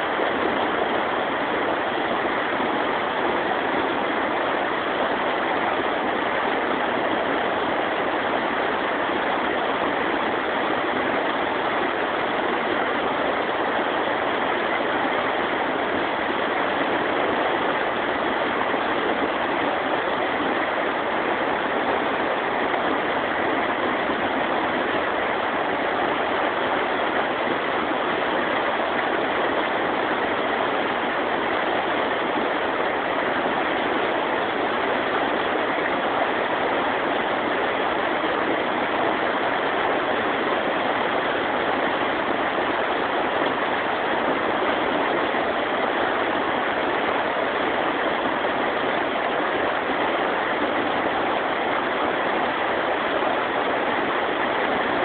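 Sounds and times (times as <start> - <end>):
river rapids rushing over rocks: 0.0 - 55.0.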